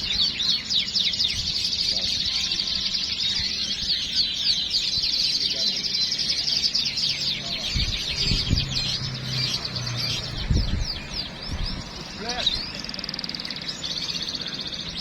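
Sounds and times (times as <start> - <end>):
songbirds chirping and trilling: 0.0 - 15.0.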